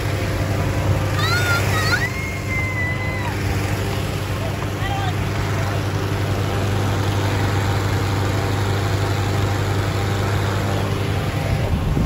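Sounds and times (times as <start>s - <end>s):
inflation fan engine droning: 0.0s - 12.0s.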